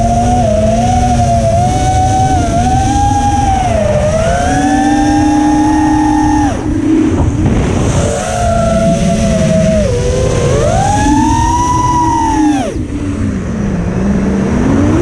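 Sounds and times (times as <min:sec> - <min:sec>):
drone motors whining: 0:00.0 - 0:15.0
wind and prop wash rumble: 0:00.0 - 0:15.0.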